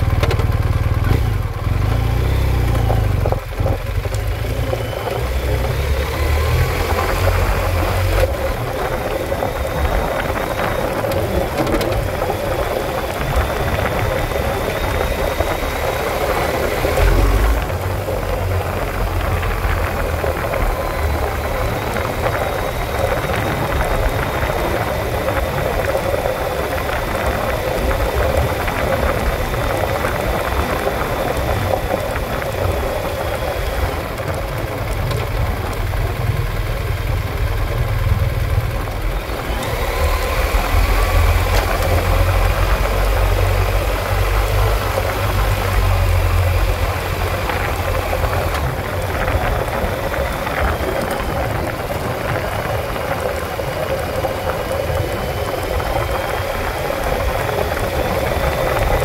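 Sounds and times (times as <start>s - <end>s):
motorcycle engine running: 0.0s - 59.0s
tyres on gravel: 0.0s - 59.0s.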